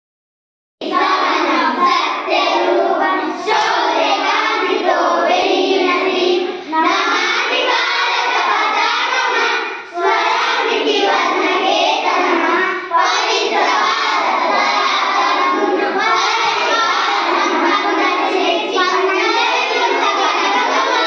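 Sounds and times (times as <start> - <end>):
children singing in unison: 0.8 - 21.0.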